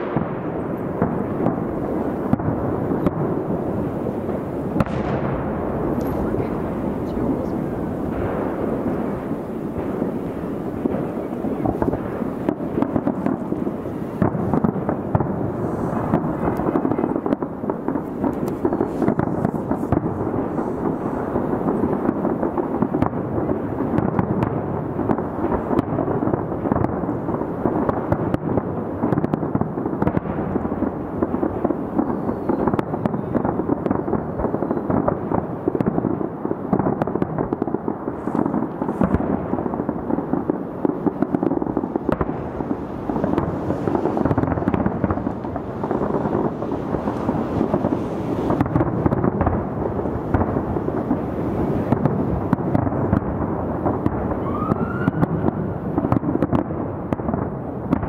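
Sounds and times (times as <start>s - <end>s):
distant fireworks rumble and crackle: 0.0s - 58.0s.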